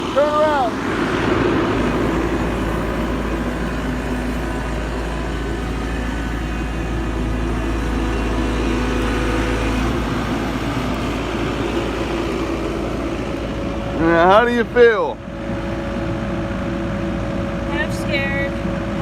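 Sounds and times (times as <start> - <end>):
loader engine running: 0.0 - 19.0.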